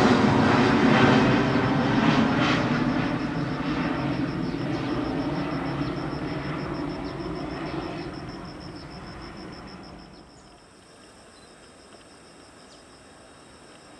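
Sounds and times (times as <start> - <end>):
jet engines at takeoff: 0.0 - 13.9
pulsing insect chirp: 0.0 - 13.9.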